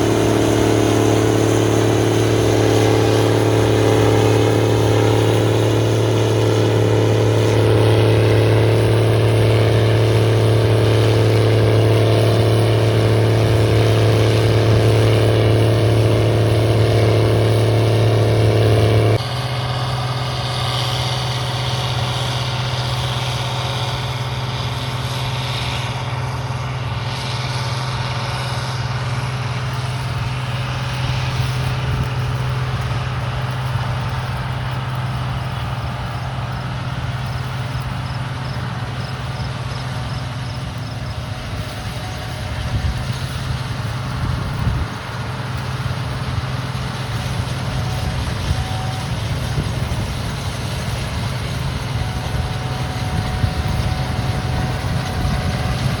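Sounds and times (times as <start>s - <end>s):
harvest machinery engine drone: 0.0s - 56.0s.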